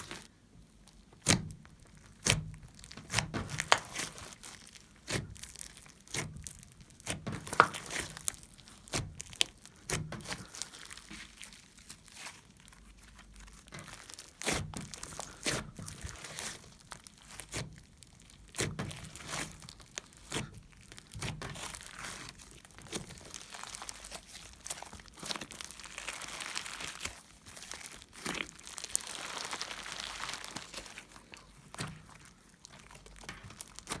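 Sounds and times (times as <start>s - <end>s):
slime wet crackles and pops: 0.0s - 34.0s.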